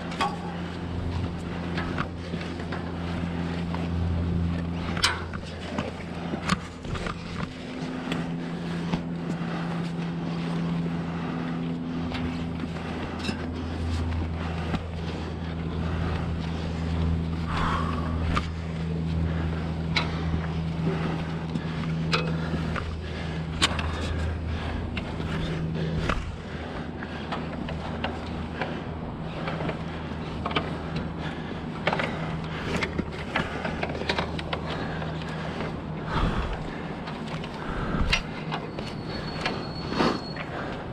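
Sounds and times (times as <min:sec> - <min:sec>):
fire truck engine droning: 0:00.0 - 0:40.9.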